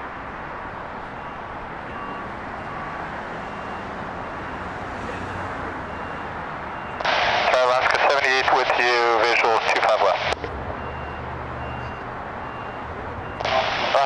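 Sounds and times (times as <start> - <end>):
airport ground traffic: 0.0 - 14.0
distant jet aircraft rumble: 0.0 - 14.0.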